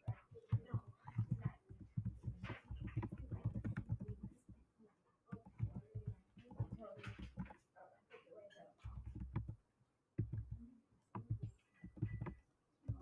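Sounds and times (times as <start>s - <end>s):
computer keyboard typing: 0.0s - 7.6s, 8.8s - 9.6s, 10.2s - 13.0s.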